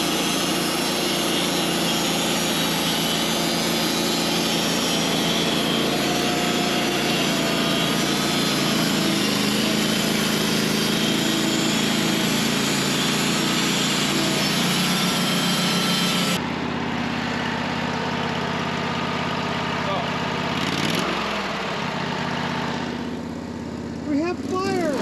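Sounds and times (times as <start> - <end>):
saw blade cutting log: 0.0 - 25.0
sawmill engine running: 0.0 - 25.0.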